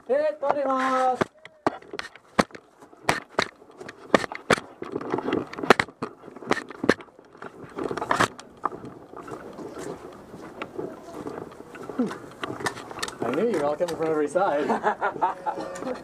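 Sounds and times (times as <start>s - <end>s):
footsteps and gear clicks: 0.0s - 16.0s
rustling: 0.0s - 16.0s.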